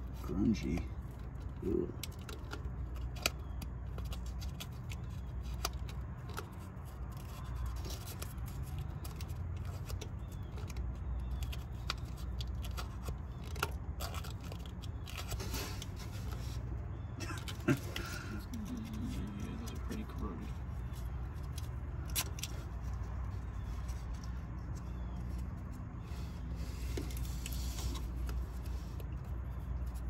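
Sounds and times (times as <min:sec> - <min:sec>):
small metallic clicks and scrapes: 0:00.0 - 0:30.0.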